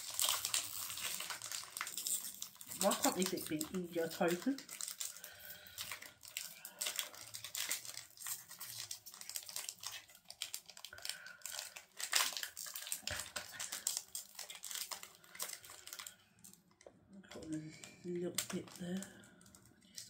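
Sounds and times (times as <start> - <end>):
foil wrapper crinkling and tearing: 0.0 - 20.0.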